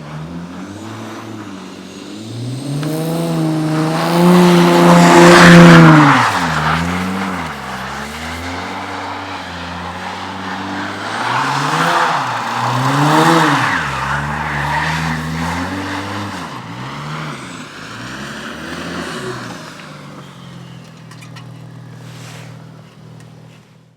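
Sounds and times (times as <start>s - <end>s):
car engine revving: 0.0s - 23.6s
tyre noise in snow: 2.6s - 23.9s.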